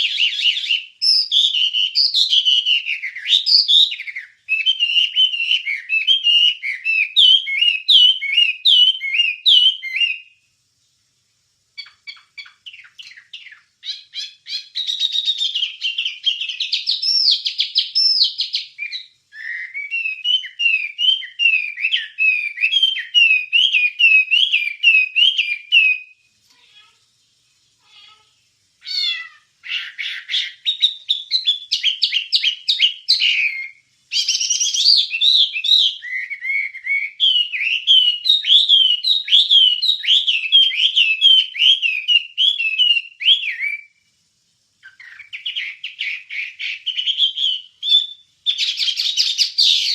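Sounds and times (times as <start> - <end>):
songbird chattering song: 0.0 - 10.4, 11.7 - 26.2, 27.4 - 44.0, 44.8 - 49.9.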